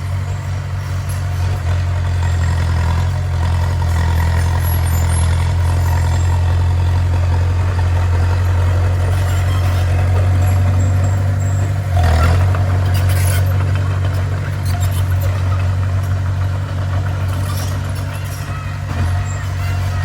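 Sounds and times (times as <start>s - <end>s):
diesel earthmoving machine running: 0.0s - 20.0s.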